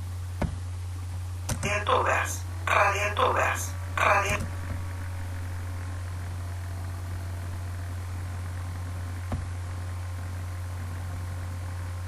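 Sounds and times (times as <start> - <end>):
constant hiss: 0.0 - 12.0
steady low hum: 0.0 - 12.0.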